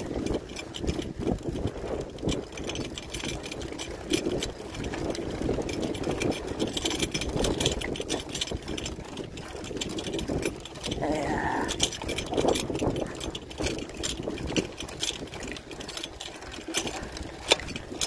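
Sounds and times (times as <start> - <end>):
bike rattling and clicking: 0.0 - 18.0.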